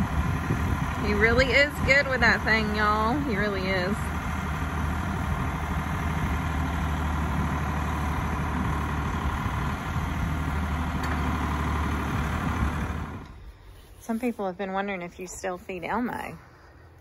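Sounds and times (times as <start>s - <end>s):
backhoe engine running: 0.0s - 14.3s.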